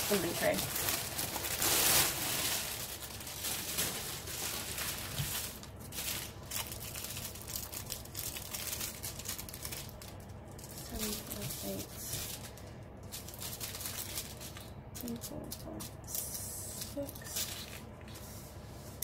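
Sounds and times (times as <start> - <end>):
plastic packaging crinkling: 0.0 - 18.2.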